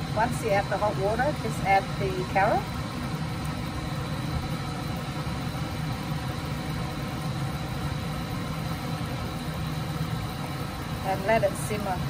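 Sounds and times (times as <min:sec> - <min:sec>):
faint high whine: 0:00.0 - 0:12.0
low mechanical hum: 0:00.0 - 0:12.0.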